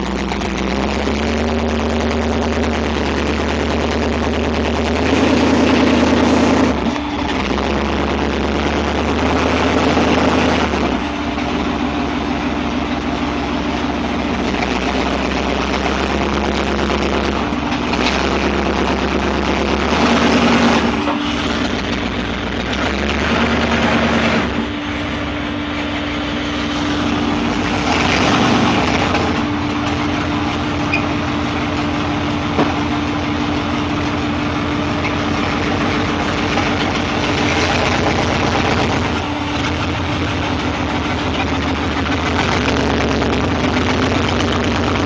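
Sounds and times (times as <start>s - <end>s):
truck engine idling and revving: 0.0s - 45.0s.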